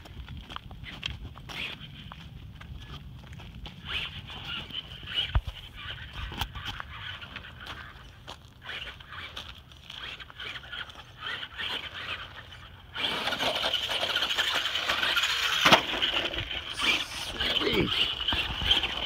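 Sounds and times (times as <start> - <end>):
tyres on gravel: 0.0 - 19.0
rc truck motor: 0.9 - 19.0.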